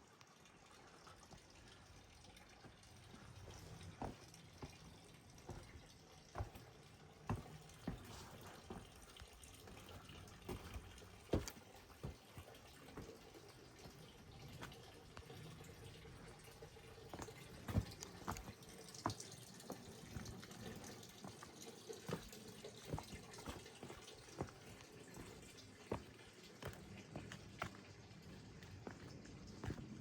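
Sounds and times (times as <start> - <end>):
water drips and taps: 0.0 - 30.0.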